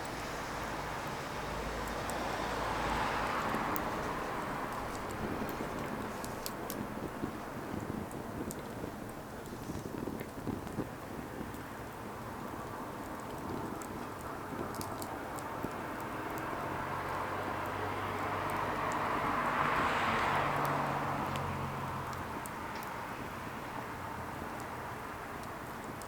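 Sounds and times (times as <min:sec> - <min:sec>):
fire popping: 0:00.0 - 0:26.0
firewood crackling: 0:00.0 - 0:26.0.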